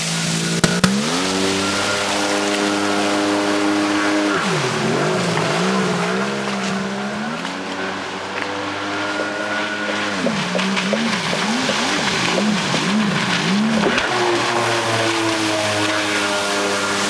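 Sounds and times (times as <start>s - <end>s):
jet ski engine revving unevenly: 0.0s - 17.0s.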